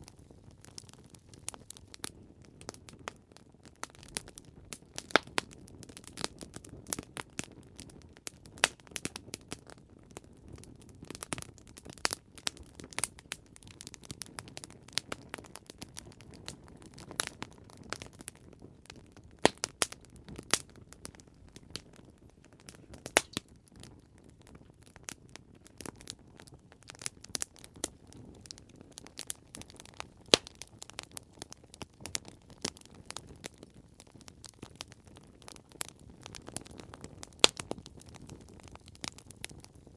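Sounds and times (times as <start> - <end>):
campfire crackles and pops: 0.0 - 39.9
rumble of flames: 0.0 - 39.9.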